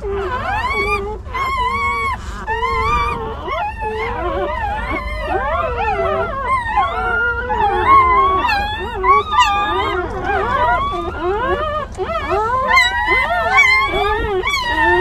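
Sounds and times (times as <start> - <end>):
puppies crying and whining: 0.0 - 15.0.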